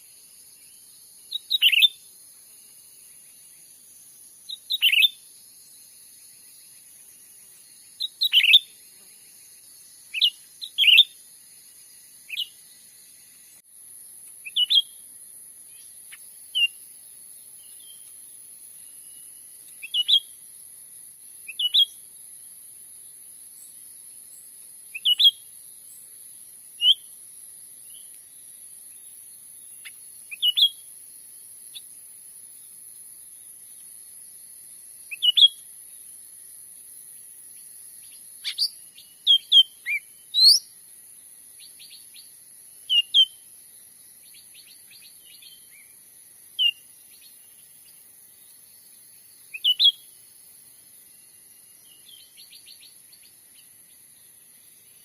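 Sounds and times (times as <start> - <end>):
bird chirping: 0.0 - 13.4, 14.1 - 20.5, 21.2 - 30.9, 35.1 - 36.1, 37.2 - 55.0
steady high hiss: 0.0 - 55.0.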